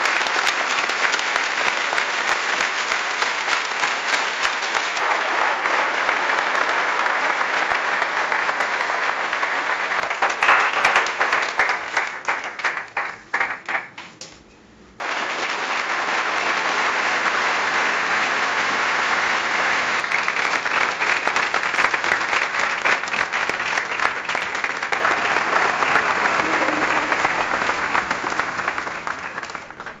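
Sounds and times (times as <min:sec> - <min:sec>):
audience applause: 0:00.0 - 0:14.0, 0:15.0 - 0:30.0.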